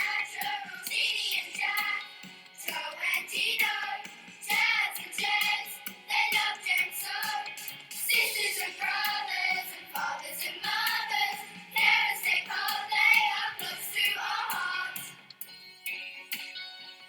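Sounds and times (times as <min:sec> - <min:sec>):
children singing: 0:00.0 - 0:15.3.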